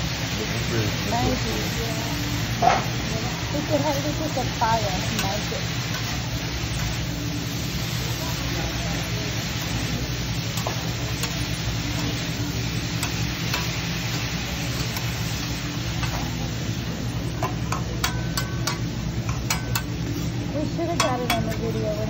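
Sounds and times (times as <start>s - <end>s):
steady low hum: 0.0s - 22.0s
vegetables sizzling on a griddle: 0.0s - 22.0s.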